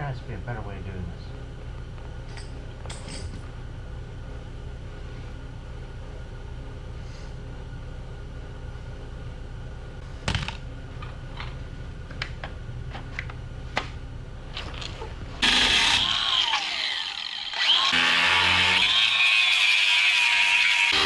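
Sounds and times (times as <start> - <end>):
steady low hum: 0.0 - 17.1.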